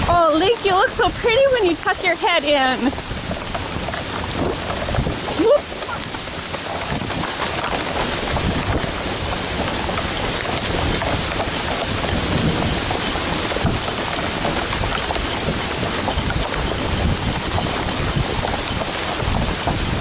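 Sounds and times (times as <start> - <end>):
raindrops hitting microphone: 0.0 - 20.0
steady rain falling: 0.0 - 20.0.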